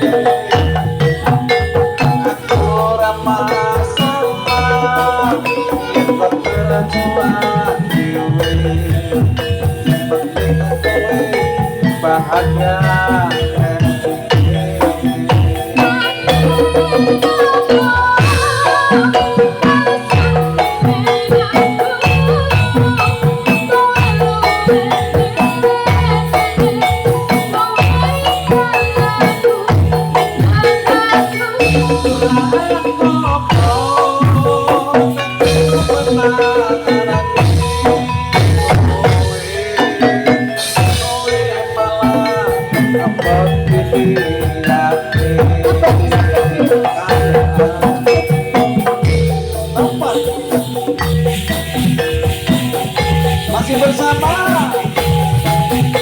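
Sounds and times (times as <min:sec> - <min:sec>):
drums: 0:00.0 - 0:56.0
metallophones playing: 0:00.0 - 0:56.0.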